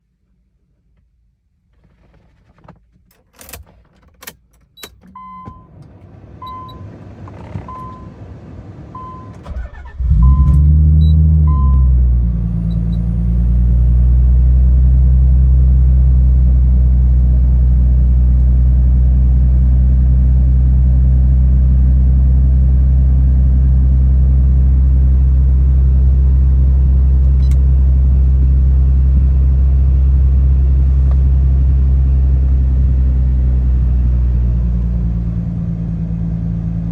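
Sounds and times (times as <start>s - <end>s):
car engine cranking and idling: 1.6s - 36.9s.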